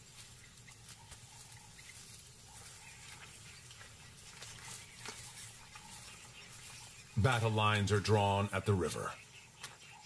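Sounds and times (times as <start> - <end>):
rustling in dry grass: 0.0 - 8.2.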